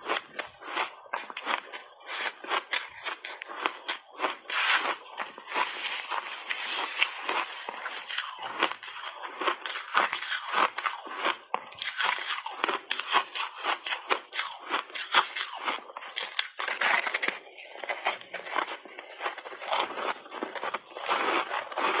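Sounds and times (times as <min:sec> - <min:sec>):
ice crunching between teeth: 0:00.0 - 0:22.0.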